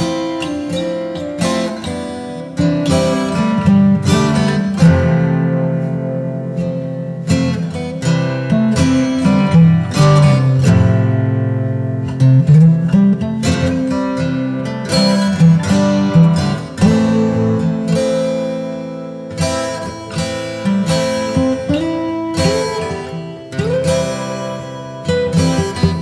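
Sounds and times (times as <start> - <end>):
acoustic guitar picking: 0.0 - 26.0.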